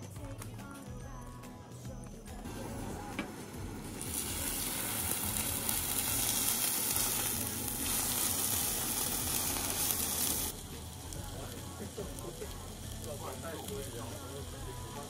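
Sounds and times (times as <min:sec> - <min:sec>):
food sizzling in a pan: 0:02.4 - 0:15.0.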